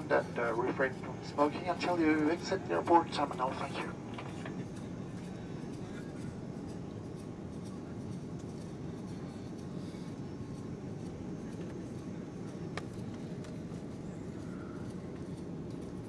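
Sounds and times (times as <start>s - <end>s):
aircraft engine rumble in cabin: 0.0s - 16.0s.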